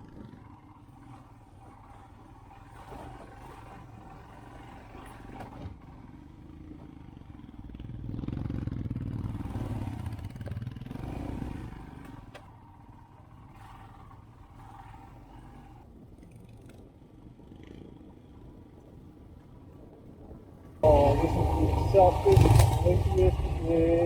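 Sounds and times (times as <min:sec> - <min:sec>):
motorcycle engine running: 0:00.0 - 0:19.6, 0:20.8 - 0:24.0.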